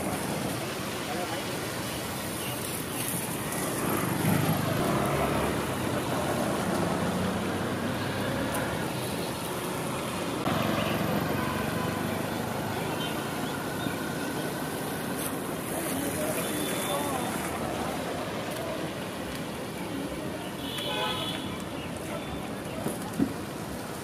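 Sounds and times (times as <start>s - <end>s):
tyres hissing on wet road: 0.0s - 24.0s
vehicles passing: 0.0s - 24.0s.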